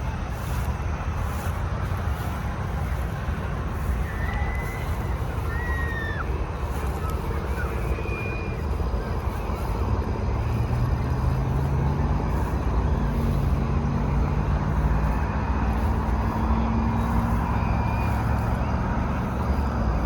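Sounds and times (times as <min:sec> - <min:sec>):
low wind rumble on microphone: 0:00.0 - 0:20.0.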